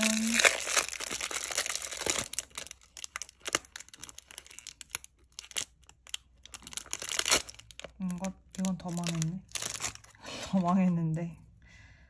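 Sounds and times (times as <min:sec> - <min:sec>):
masking tape peeling crackles: 0:00.0 - 0:10.7.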